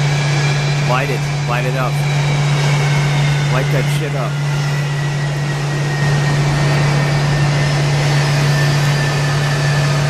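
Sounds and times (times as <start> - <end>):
jet engines idling: 0.0 - 10.0.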